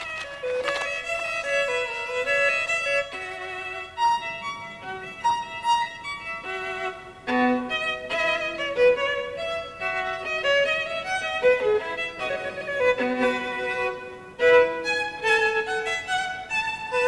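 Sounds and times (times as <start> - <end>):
violin melody: 0.0 - 17.0.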